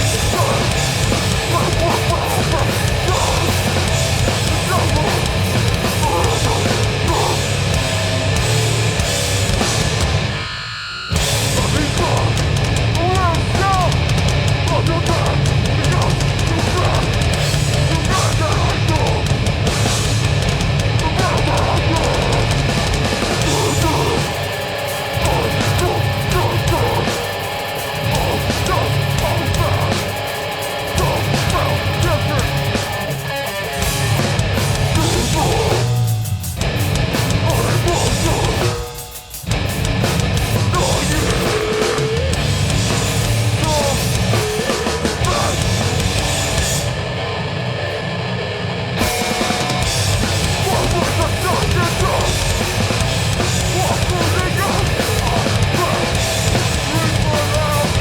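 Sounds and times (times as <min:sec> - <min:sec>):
hardcore band playing: 0:00.0 - 0:58.0.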